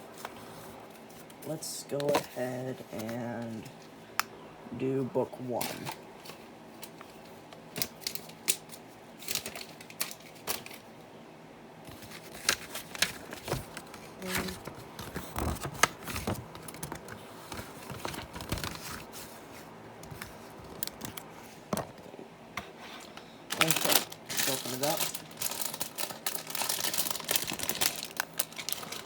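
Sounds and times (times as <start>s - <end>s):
paper and plastic rustling: 0.0s - 3.9s, 5.6s - 10.9s, 11.8s - 21.9s, 22.6s - 29.0s.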